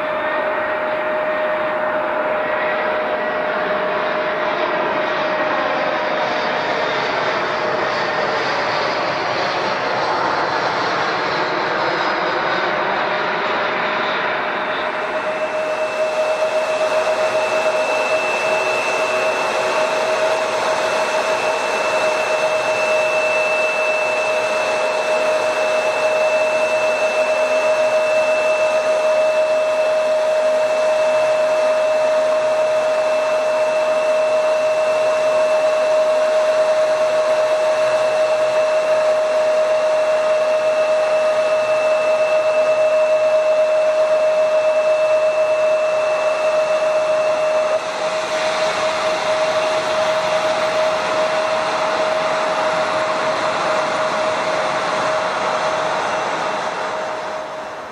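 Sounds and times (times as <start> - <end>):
jet turbine engines running: 0.0 - 57.9.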